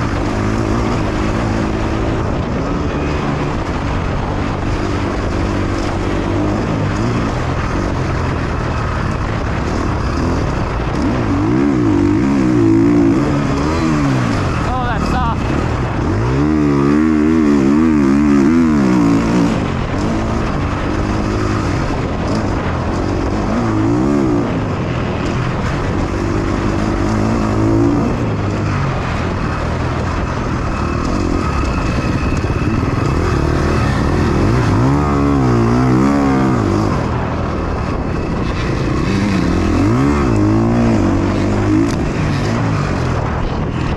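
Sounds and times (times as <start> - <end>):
motocross bike engine revving: 0.0 - 43.9
steady rush of noise: 0.0 - 43.9.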